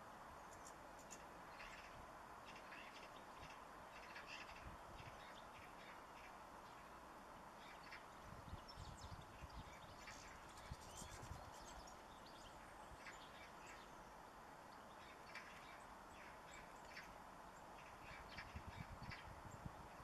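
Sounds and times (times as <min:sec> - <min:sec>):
birds chirping: 0:00.4 - 0:20.0.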